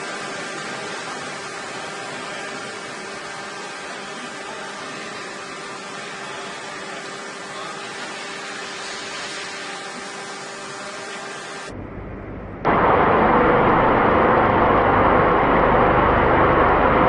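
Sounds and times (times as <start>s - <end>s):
loud rumbling machining noise: 0.0s - 17.0s
machinery hum with even tones: 0.0s - 17.0s.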